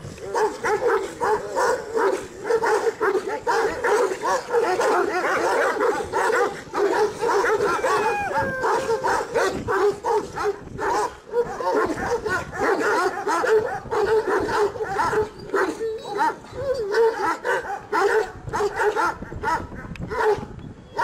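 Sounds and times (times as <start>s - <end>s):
dog barking: 0.3s - 21.0s.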